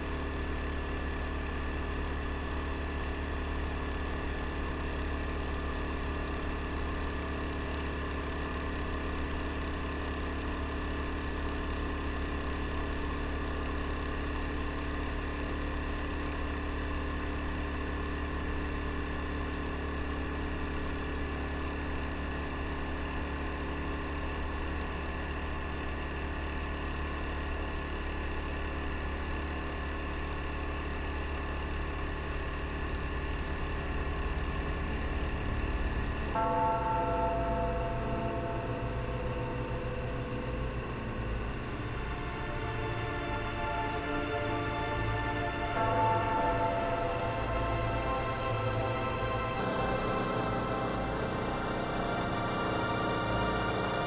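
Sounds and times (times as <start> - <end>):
small boat engine droning: 0.0 - 54.0.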